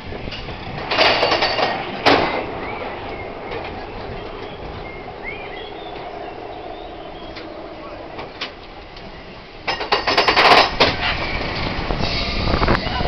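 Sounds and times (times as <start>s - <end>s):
roller coaster clattering: 0.0s - 13.0s
roller coaster rumble with hum: 0.0s - 13.0s.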